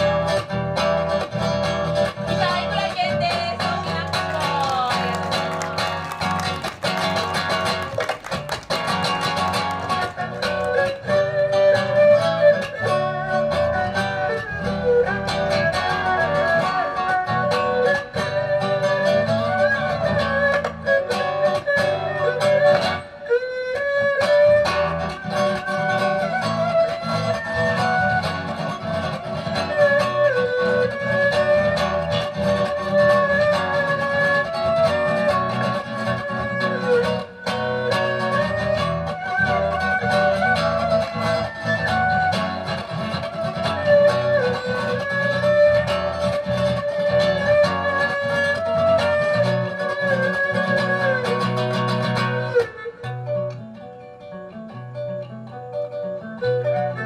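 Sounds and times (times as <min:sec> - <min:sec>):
plucked guitar accompaniment: 0:00.0 - 0:57.0
erhu bowed melody: 0:02.9 - 0:57.0.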